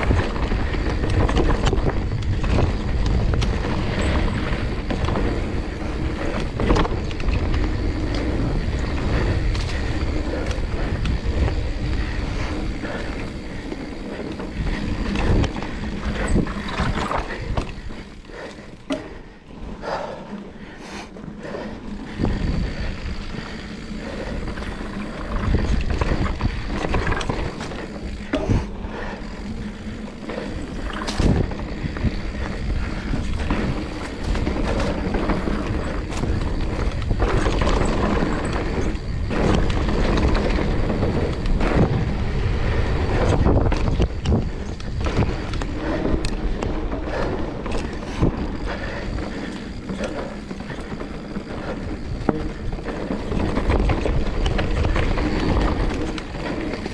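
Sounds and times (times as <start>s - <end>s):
bike knocking and rattling: 0.0s - 56.9s
mountain bike rumbling on dirt: 0.0s - 56.9s.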